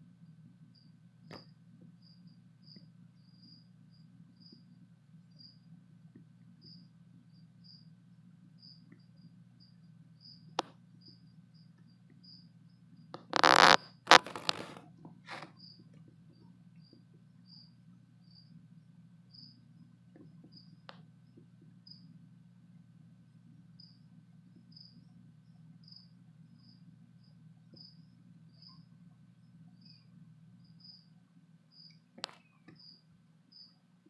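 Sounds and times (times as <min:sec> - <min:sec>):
cricket chirping: 0:00.2 - 0:22.2, 0:23.7 - 0:33.9.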